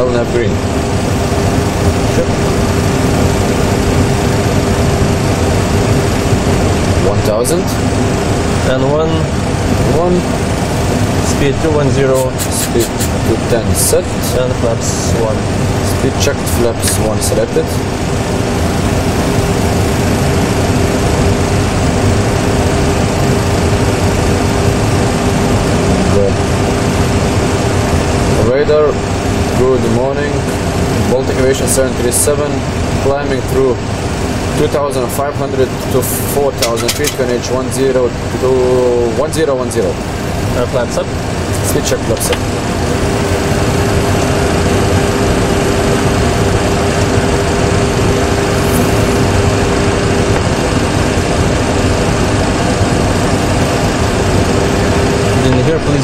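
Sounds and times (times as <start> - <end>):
aircraft engine and airflow noise: 0.0 - 56.0
steady hum: 0.0 - 56.0.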